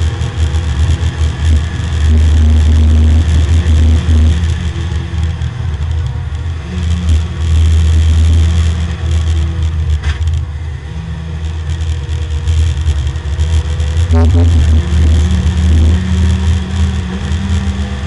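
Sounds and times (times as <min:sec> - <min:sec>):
race car engine from inside cabin: 0:00.0 - 0:18.0.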